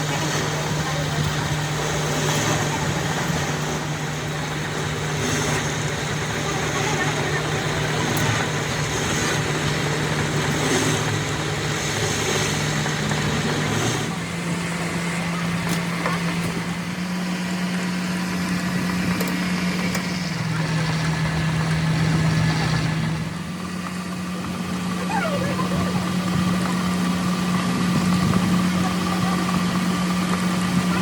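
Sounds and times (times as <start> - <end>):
motor humming: 0.0 - 31.0
workshop noise: 0.0 - 31.0.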